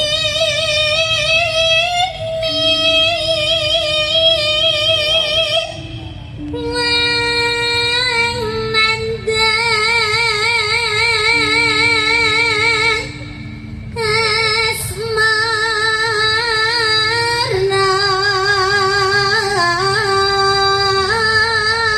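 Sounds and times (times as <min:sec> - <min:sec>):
steady accompaniment tone: 0:00.0 - 0:21.9
woman singing with vibrato: 0:00.0 - 0:21.9.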